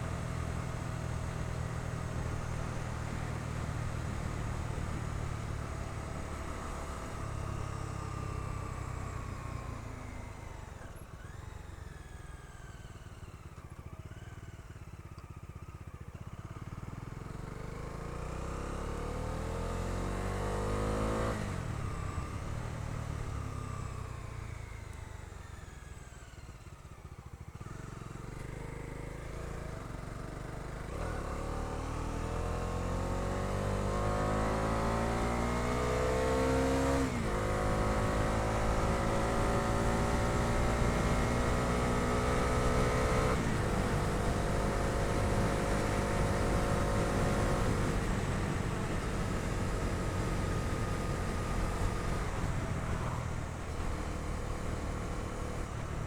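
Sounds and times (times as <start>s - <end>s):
motorcycle engine accelerating: 0.0s - 14.8s, 16.1s - 56.0s.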